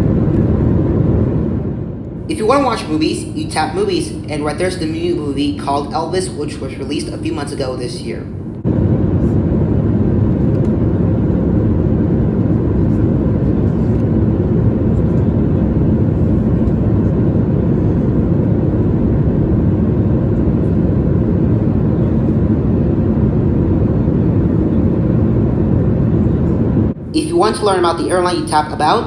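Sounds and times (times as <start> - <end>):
airliner cabin rumble: 0.0 - 29.0
faint steady hum: 0.0 - 29.0.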